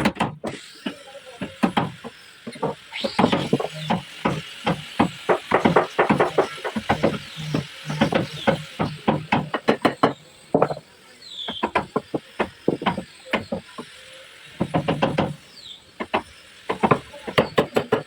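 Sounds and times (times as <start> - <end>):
hammering on wood: 0.0 - 0.6, 1.4 - 10.8, 11.5 - 14.0, 14.6 - 15.4, 16.0 - 18.0.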